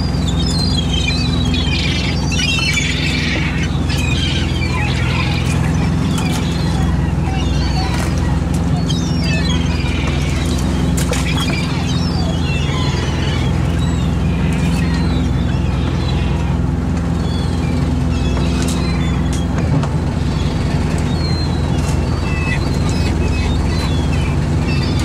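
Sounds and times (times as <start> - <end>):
boat engine droning: 0.0 - 25.0
gulls calling: 0.0 - 25.0.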